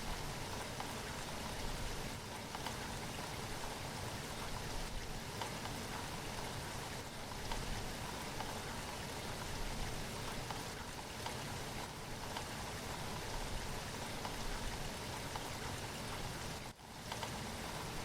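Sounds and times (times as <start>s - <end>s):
rain drops ticking: 0.0s - 18.0s.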